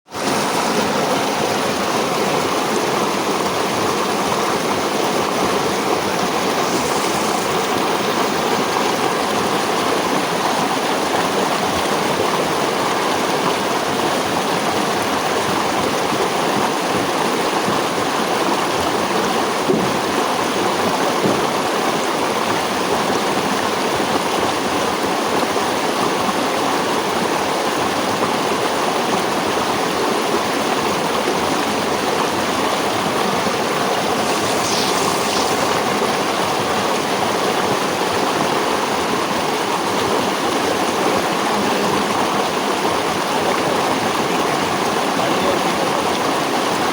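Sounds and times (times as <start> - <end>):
stream water flowing: 0.1 - 46.9.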